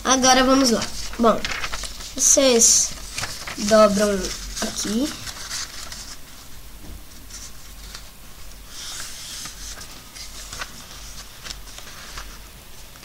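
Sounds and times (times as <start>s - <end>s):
paper rubbing hiss: 0.2s - 13.0s
paper rustling and sliding: 0.2s - 13.0s.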